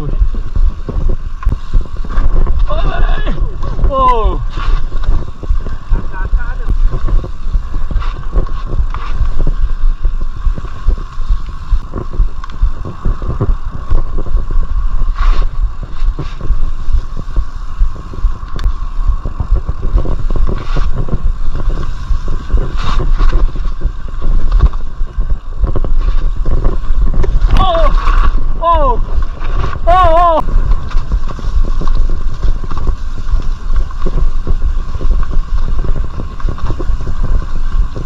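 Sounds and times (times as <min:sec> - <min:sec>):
mountain bike rumbling on trail: 0:00.0 - 0:38.0.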